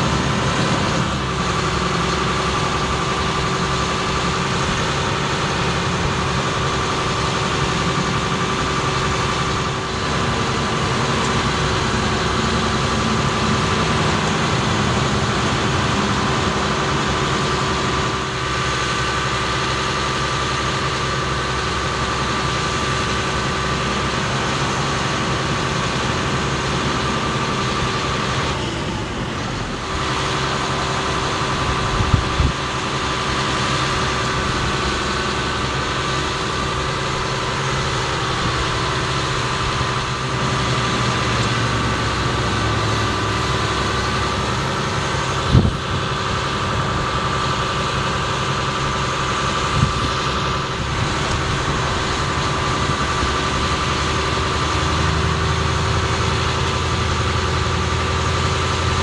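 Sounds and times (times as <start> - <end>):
hydraulic whine: 0.0 - 59.0
truck engine running: 0.0 - 59.0.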